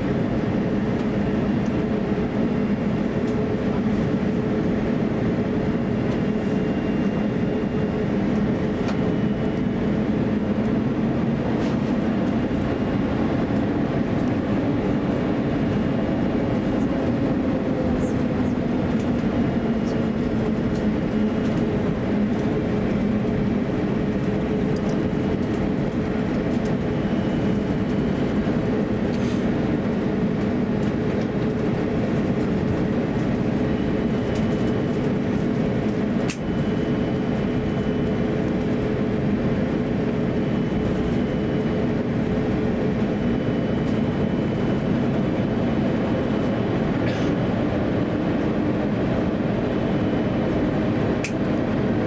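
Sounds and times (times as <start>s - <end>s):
aircraft cabin engine hum: 0.0s - 52.0s.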